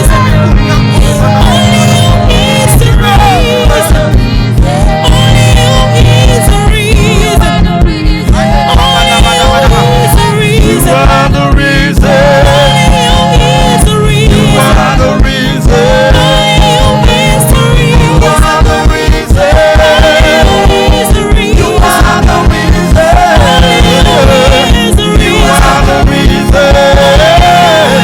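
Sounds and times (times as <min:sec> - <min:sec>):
gospel band playing up-tempo: 0:00.0 - 0:28.0.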